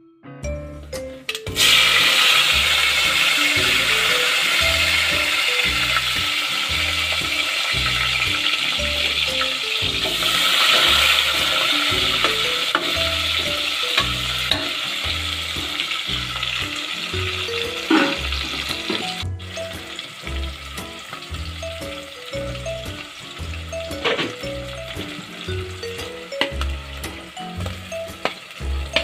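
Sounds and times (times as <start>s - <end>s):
background music: 0.0s - 29.0s
onions sizzling in oil: 1.5s - 29.0s.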